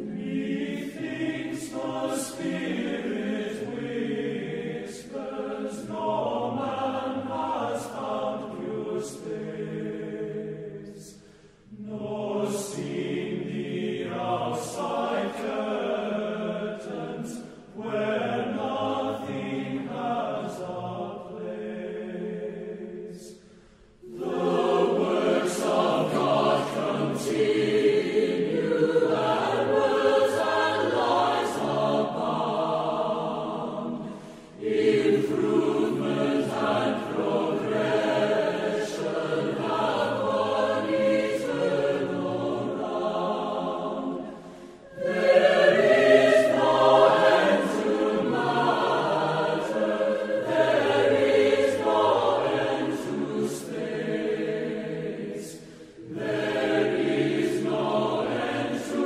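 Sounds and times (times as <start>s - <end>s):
choir singing sustained chords: 0.0s - 59.0s.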